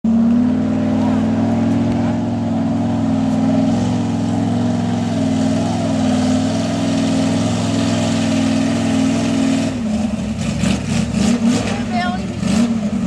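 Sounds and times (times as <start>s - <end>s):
truck engine running steadily: 0.0s - 13.0s.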